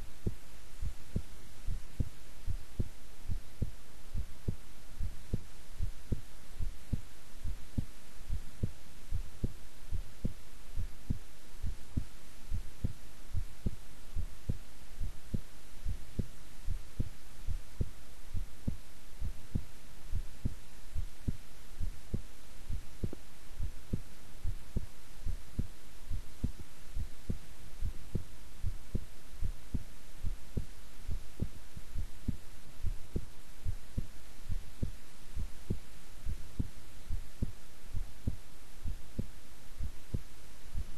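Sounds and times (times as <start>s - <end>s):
heartbeat: 0.0s - 40.9s
low hum: 0.0s - 40.9s.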